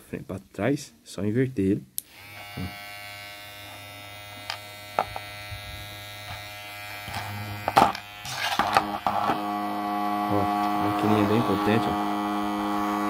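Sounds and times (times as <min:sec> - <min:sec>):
hair clipper buzzing: 0:02.0 - 0:13.0.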